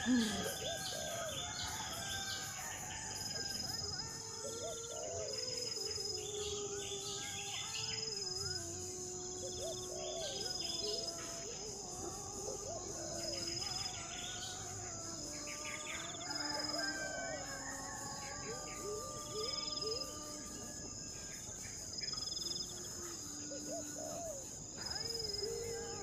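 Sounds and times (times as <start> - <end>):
high-pitched insect buzz: 3.8 - 26.0.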